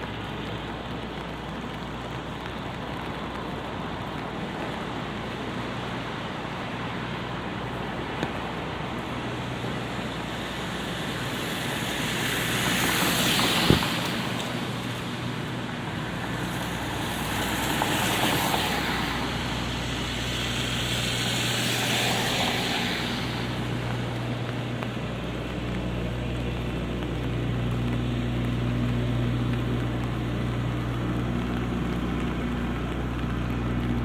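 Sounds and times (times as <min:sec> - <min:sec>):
cars passing on wet street: 0:00.0 - 0:34.0.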